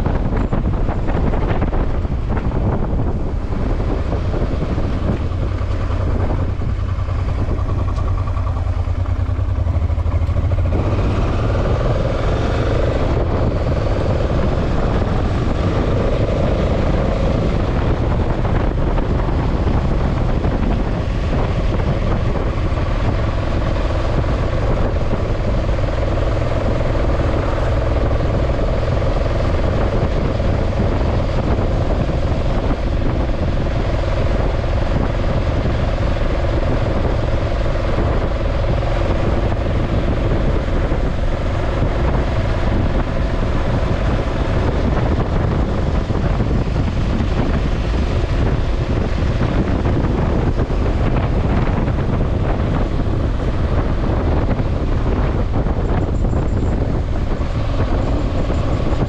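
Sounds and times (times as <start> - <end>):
wind noise: 0.0 - 59.0.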